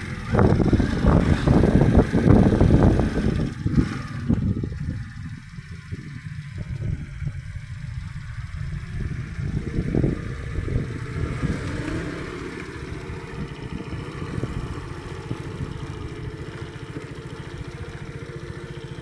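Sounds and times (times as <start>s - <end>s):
vehicle engine pulsing: 0.0s - 19.0s.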